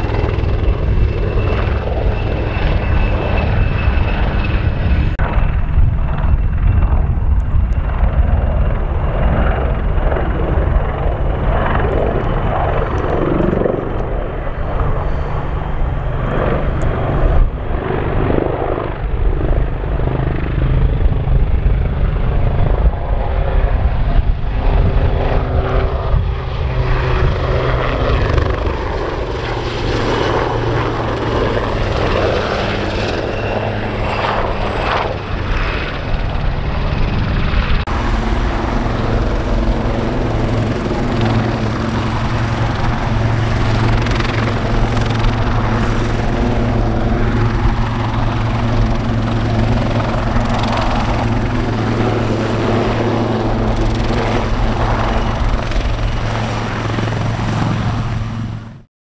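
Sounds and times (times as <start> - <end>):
engine drone: 0.0 - 58.9
helicopter rotor beat: 0.0 - 58.9
high turbine whine: 0.0 - 58.9.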